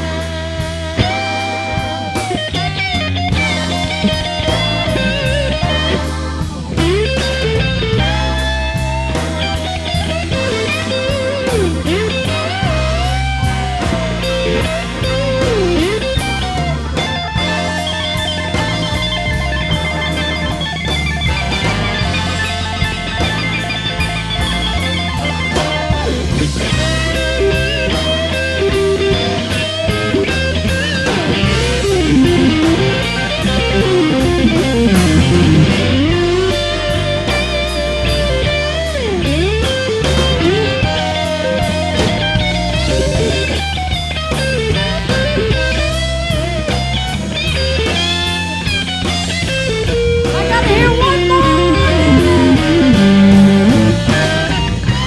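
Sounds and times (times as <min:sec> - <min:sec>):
bass guitar: 0:00.0 - 0:55.0
drum kit: 0:00.0 - 0:55.0
lead electric guitar: 0:00.0 - 0:55.0.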